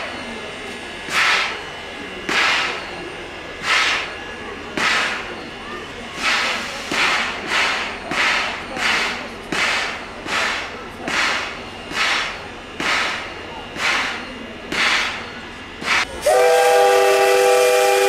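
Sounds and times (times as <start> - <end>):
low crowd murmur: 0.0 - 18.0
steam locomotive chuffing: 0.0 - 18.0.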